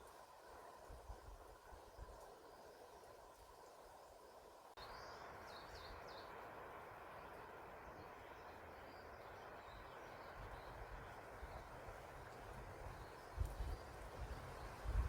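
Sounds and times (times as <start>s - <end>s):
songbird chirping: 1.6s - 15.0s.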